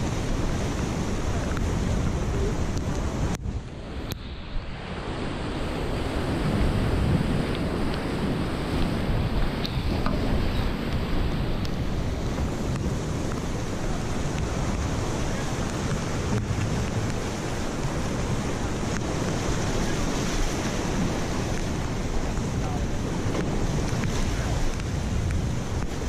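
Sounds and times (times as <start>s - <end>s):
surf washing against rocks: 0.0s - 26.0s
wind buffeting microphone: 0.0s - 26.0s.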